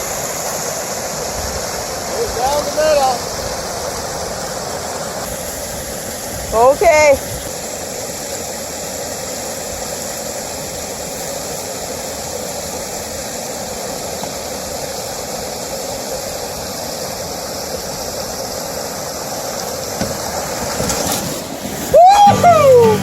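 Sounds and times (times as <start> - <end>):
fast creek water rushing: 0.0 - 23.0.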